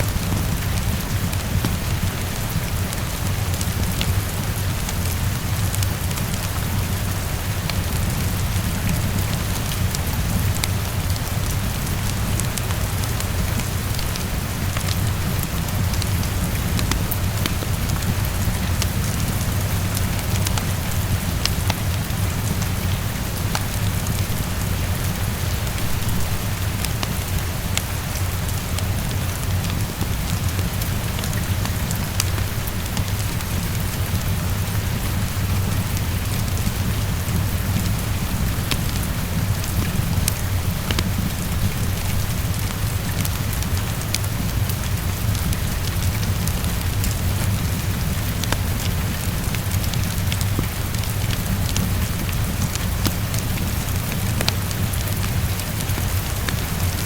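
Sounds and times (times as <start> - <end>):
heavy rain against window: 0.0 - 57.0.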